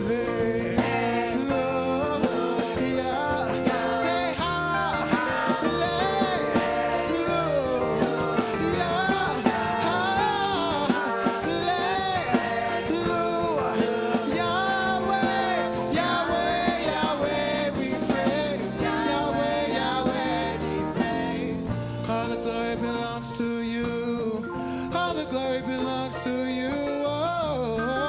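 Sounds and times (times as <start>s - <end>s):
backing band playing: 0.0s - 28.0s
person singing gospel: 0.0s - 28.0s.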